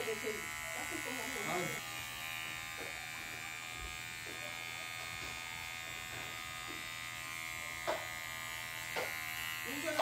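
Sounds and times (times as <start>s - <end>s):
electric clippers buzzing: 0.0s - 10.0s.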